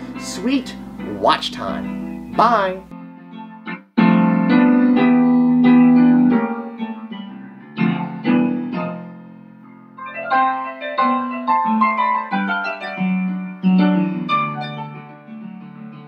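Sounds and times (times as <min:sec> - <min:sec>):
piano chords ringing out: 0:00.0 - 0:16.0.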